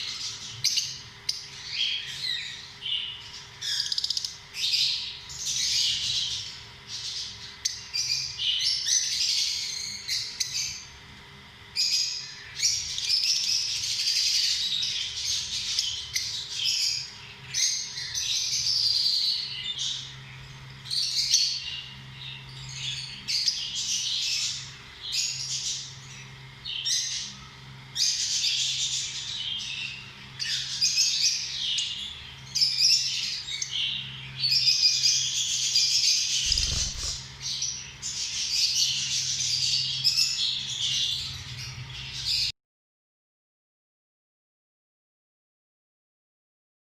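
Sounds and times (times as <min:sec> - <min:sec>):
lovebirds chirping and squawking: 0:00.0 - 0:10.9, 0:11.8 - 0:27.4, 0:28.0 - 0:42.5.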